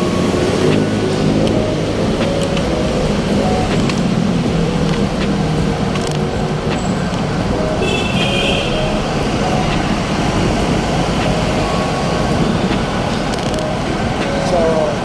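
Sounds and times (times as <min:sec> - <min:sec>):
high-pitched tone: 0:00.0 - 0:15.0
road and wind noise: 0:00.0 - 0:15.0.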